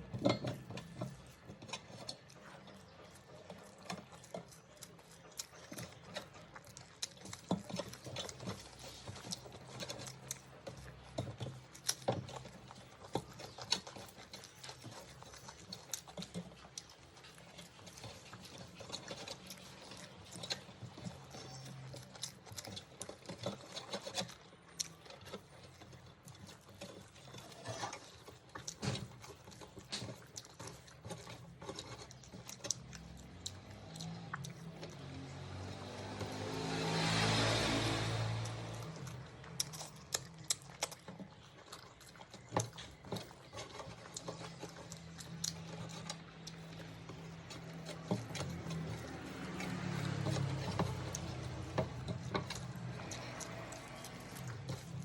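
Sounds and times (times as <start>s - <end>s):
food being chewed crunchily: 0.0s - 55.0s.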